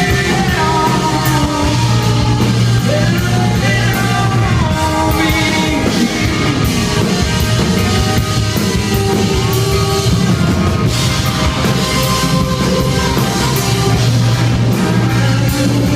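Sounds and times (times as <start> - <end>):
live country-rock band: 0.0 - 15.9.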